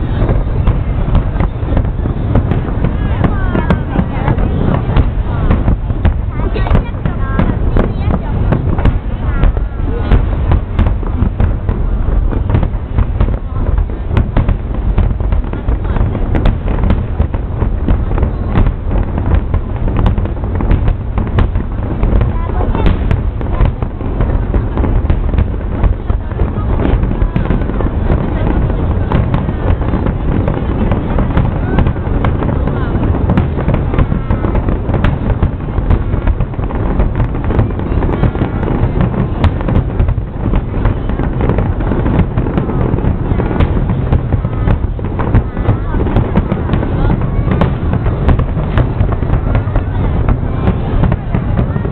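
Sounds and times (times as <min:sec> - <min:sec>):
constant low rumble: 0:00.0 - 0:51.9
fireworks bangs and crackles: 0:00.0 - 0:51.9.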